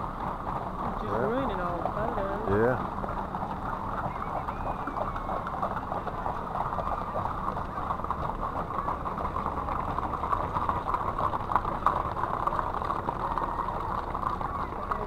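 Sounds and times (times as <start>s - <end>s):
hooves clopping on asphalt: 0.0s - 15.0s.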